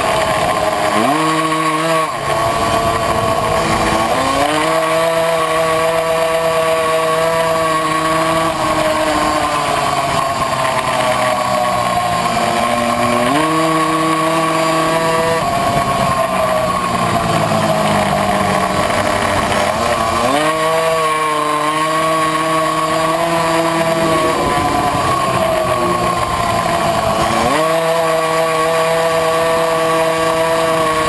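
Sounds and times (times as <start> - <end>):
two-stroke moped engine revving: 0.0 - 31.0.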